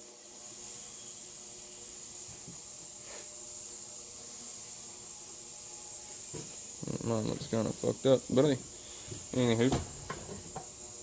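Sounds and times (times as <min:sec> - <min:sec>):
high-pitched hiss: 0:00.4 - 0:11.0.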